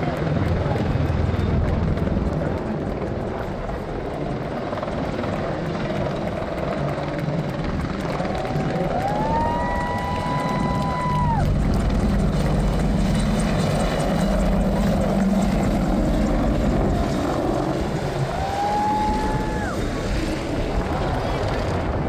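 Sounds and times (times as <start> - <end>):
helicopter rotor rumble: 0.0 - 22.0.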